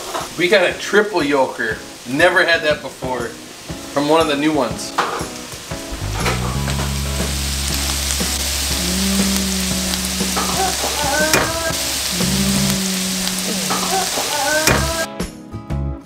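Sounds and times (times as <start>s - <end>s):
food sizzling in a skillet: 0.0s - 15.1s
soft background music: 0.3s - 16.0s.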